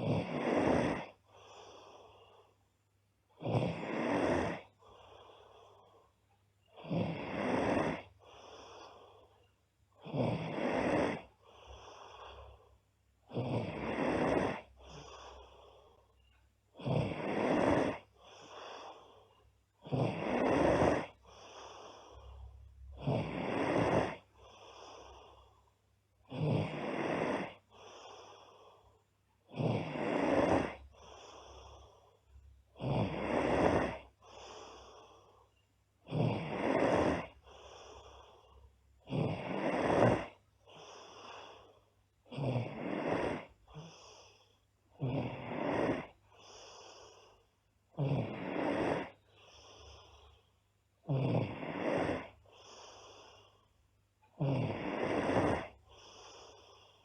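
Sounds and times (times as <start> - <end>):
girl snoring loudly: 0.0 - 2.5, 3.3 - 5.6, 6.7 - 9.3, 10.0 - 15.8, 16.7 - 19.2, 19.8 - 25.5, 26.2 - 28.8, 29.4 - 32.1, 32.7 - 35.4, 36.0 - 50.3, 51.0 - 53.4, 54.3 - 57.0
soft breath: 0.0 - 6.8, 7.4 - 57.0.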